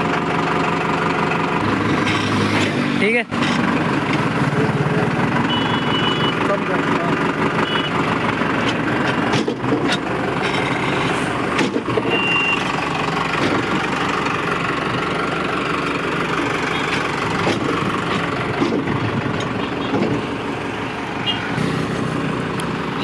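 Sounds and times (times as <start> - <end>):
diesel engine idling: 0.0 - 23.0
engine knocks: 0.0 - 23.0.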